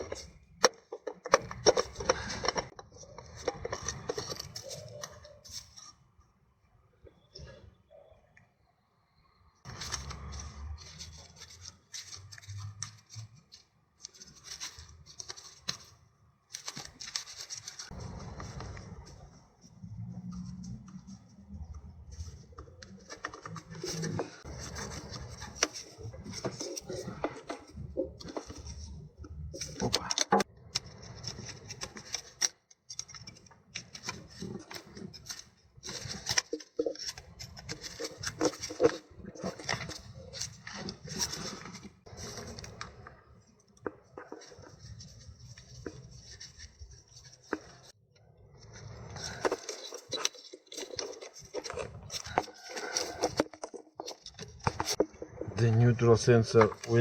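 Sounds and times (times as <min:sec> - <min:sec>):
hands handling metal parts and tools: 0:00.0 - 0:06.1, 0:09.7 - 0:48.0, 0:48.6 - 0:57.0.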